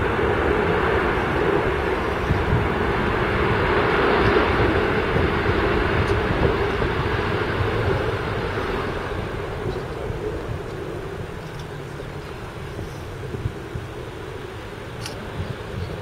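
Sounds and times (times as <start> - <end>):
jet airliner landing: 0.0 - 16.0.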